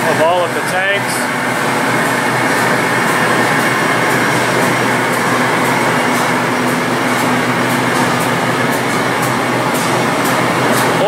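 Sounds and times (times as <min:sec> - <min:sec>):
loud mechanical roar: 0:00.0 - 0:11.0.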